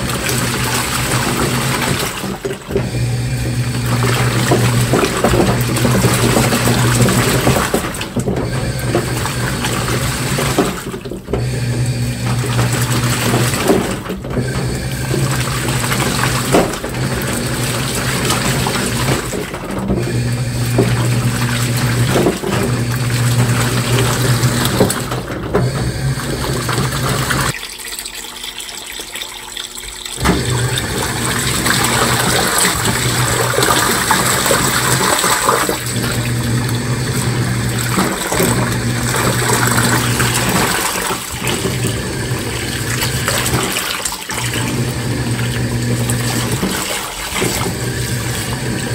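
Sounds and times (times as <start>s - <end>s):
washing machine motor hum: 0.0s - 48.9s
water churning and sloshing: 0.0s - 48.9s.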